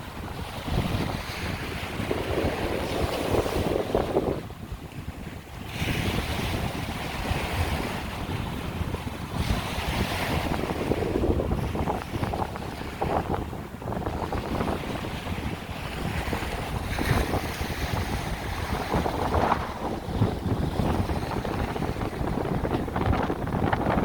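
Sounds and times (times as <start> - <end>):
surf washing onto beach: 0.0 - 24.0
wind gusting over microphone: 0.0 - 24.0.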